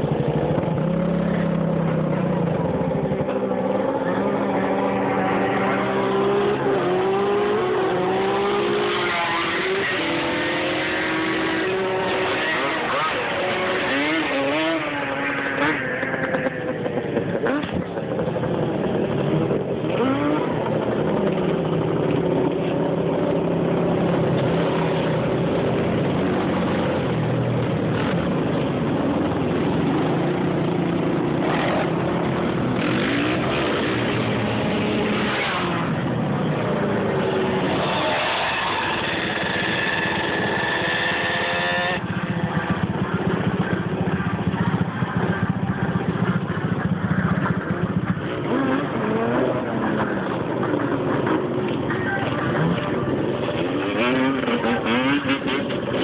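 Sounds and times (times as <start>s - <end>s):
quad engines revving: 0.0s - 56.0s.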